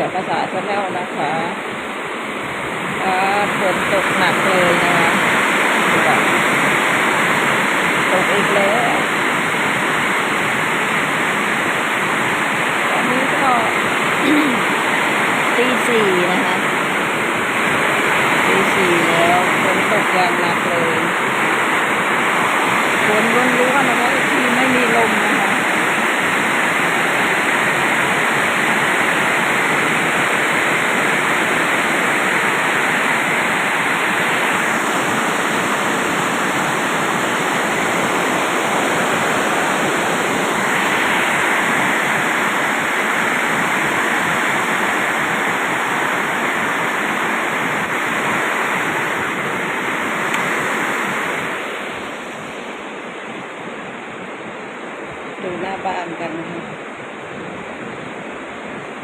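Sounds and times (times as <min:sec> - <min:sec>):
heavy rain downpour: 0:00.0 - 0:59.0.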